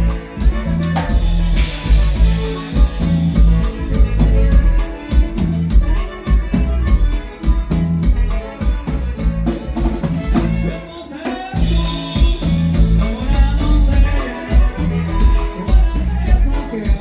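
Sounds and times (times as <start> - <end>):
norteno band music: 0.0 - 17.0.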